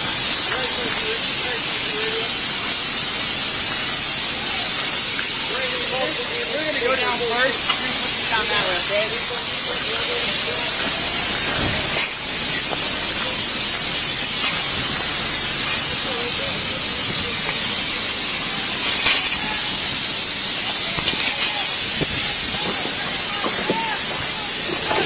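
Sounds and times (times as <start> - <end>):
loud steady hiss: 0.0 - 25.0.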